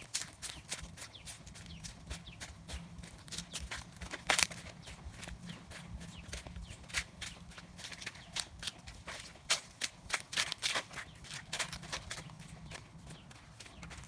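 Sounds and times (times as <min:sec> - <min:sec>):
footsteps clicking and knocking: 0:00.0 - 0:14.0.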